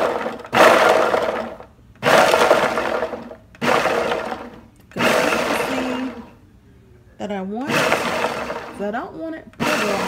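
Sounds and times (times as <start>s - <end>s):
blender pulsing: 0.0s - 6.3s, 7.6s - 8.9s, 9.5s - 10.0s.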